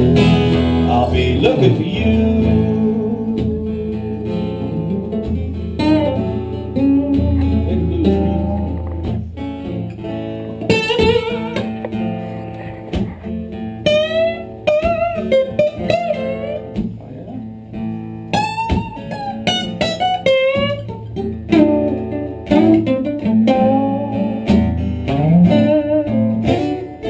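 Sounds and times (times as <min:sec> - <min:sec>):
lead guitar bent notes: 0:00.0 - 0:17.4, 0:18.3 - 0:27.0
strummed acoustic guitar: 0:00.0 - 0:27.0.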